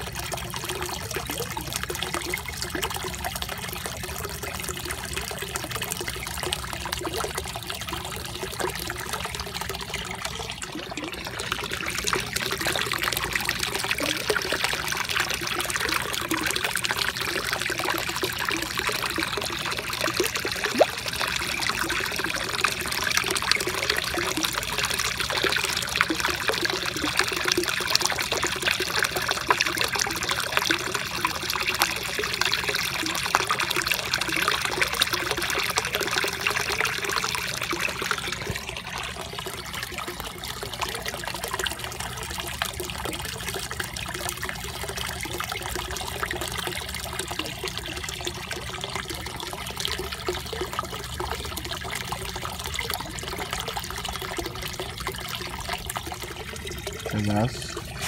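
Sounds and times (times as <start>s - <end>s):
pond water trickling and splashing: 0.0s - 58.0s.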